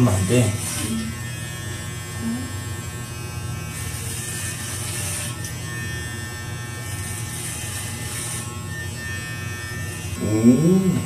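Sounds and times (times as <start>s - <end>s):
electric hair clipper buzzing: 0.0s - 11.0s.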